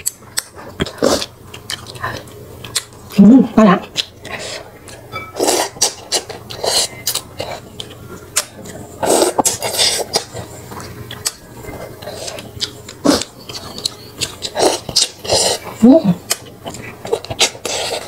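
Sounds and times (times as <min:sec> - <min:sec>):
person slurping and chewing: 0:00.0 - 0:03.2, 0:03.8 - 0:18.0.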